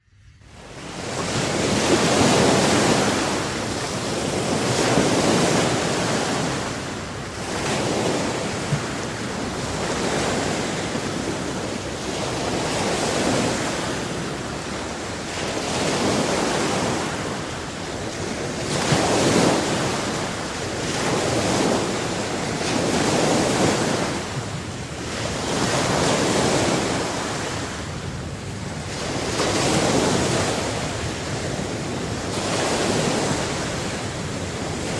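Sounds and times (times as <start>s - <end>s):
sea waves washing in: 0.0s - 34.9s
wind buffeting microphone: 0.0s - 34.9s.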